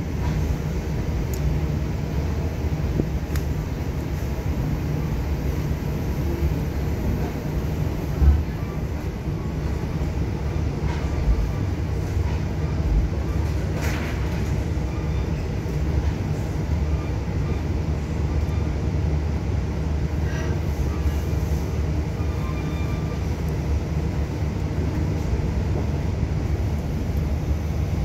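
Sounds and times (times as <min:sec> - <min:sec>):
train rumbling: 0:00.0 - 0:28.0.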